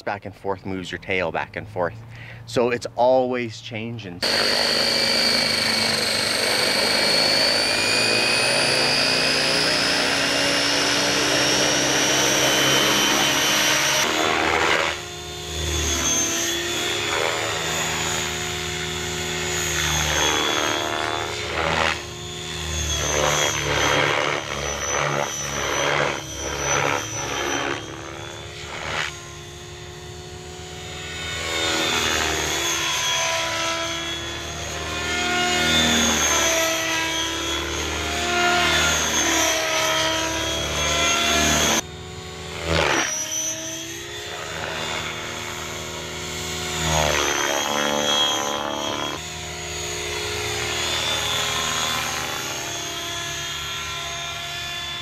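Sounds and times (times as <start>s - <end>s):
rc helicopter rotor whining: 3.8s - 55.0s.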